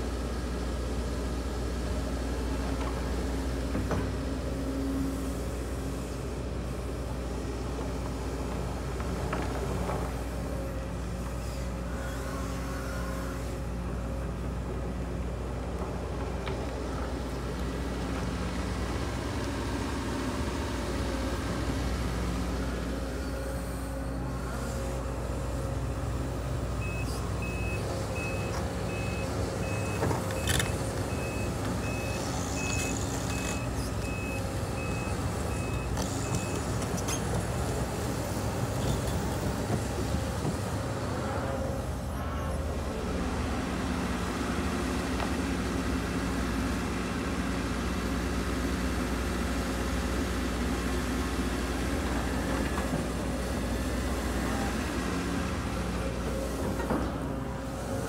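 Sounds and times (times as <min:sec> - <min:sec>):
excavator diesel engine running: 0:00.1 - 0:11.9, 0:13.4 - 0:58.0.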